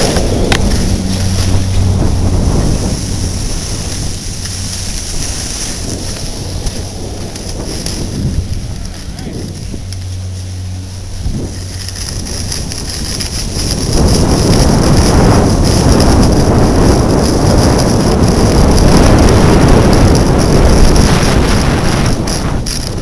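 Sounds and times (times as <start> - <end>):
skis sliding on snow: 0.0 - 23.0
wind rushing over microphone: 0.0 - 23.0.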